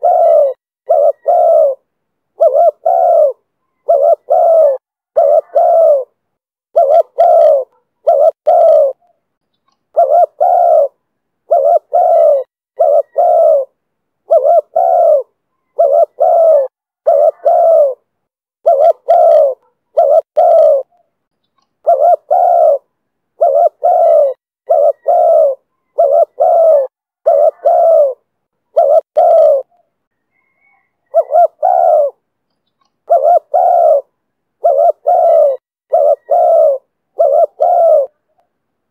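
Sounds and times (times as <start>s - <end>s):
dove cooing: 0.0s - 9.1s, 9.9s - 21.1s, 21.8s - 32.3s, 33.0s - 38.4s.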